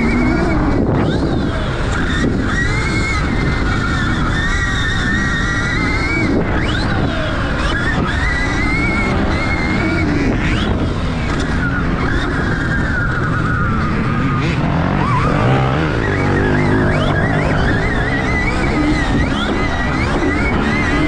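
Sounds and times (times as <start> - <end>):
electric motorbike motor whining: 0.0 - 21.0.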